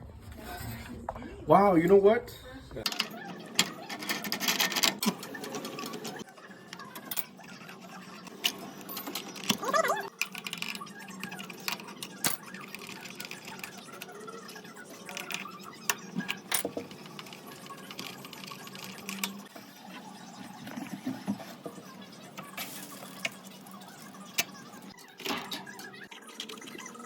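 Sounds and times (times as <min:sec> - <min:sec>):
tools and parts clattering: 0:02.8 - 0:19.5, 0:20.4 - 0:27.0.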